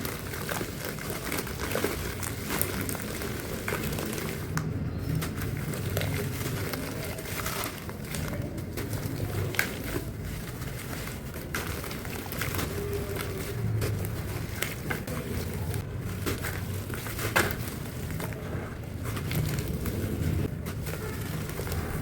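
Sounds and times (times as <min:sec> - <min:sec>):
crisp crackles: 0:00.0 - 0:22.0.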